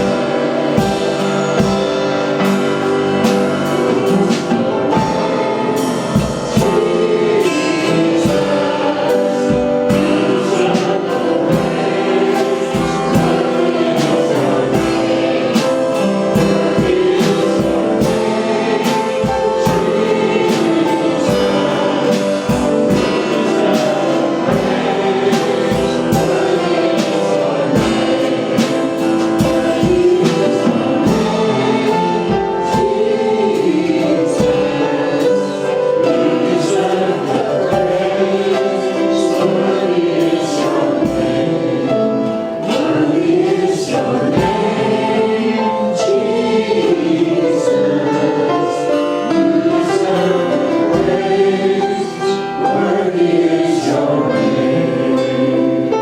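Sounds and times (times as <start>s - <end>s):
steady drum beat: 0.0s - 47.3s, 49.7s - 56.0s
choir singing: 0.0s - 56.0s
worship band playing: 0.0s - 56.0s.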